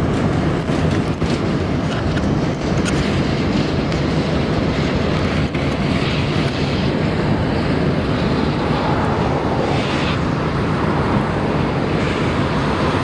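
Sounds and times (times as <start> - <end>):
train rolling past: 0.0 - 13.0
wind on microphone: 0.0 - 13.0.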